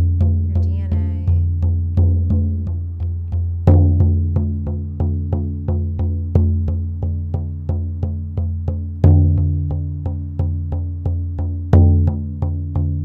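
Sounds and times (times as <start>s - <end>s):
frame drum beat: 0.0s - 13.0s.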